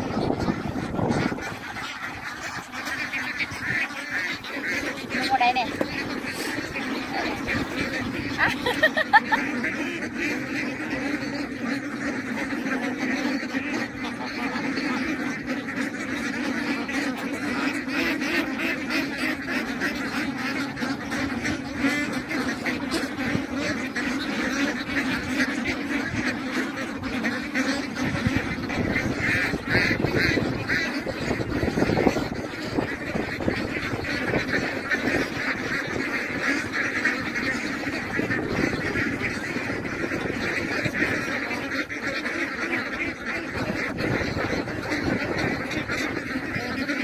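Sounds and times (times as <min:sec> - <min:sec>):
ducks quacking: 0:00.0 - 0:47.0.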